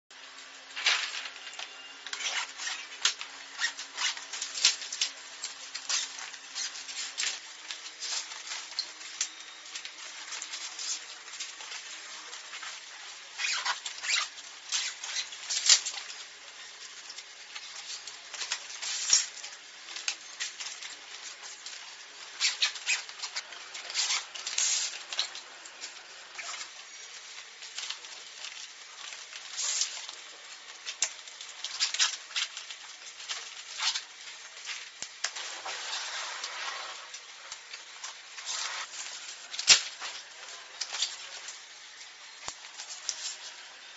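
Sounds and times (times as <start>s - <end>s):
nylon fabric rustling: 0.6s - 16.2s, 17.6s - 43.9s.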